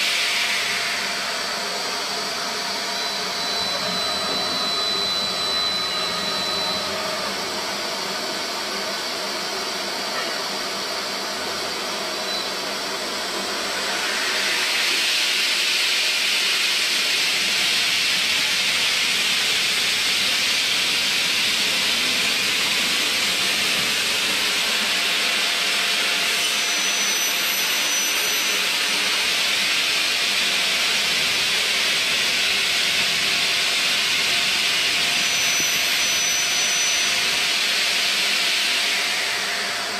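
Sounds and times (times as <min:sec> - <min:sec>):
machine spindle cutting metal: 0:02.2 - 0:08.2, 0:13.7 - 0:39.9.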